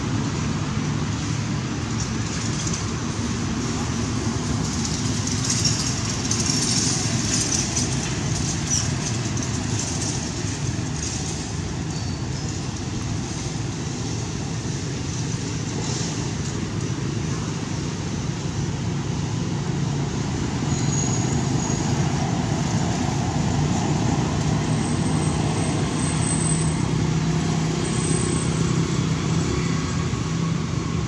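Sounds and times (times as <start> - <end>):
motor traffic rumble: 0.0 - 31.0.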